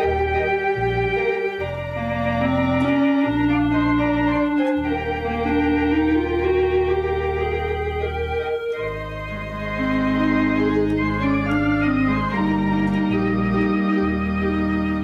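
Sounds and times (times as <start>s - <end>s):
organ chords and melody: 0.0s - 15.0s
organ pedal bass notes: 0.0s - 15.0s.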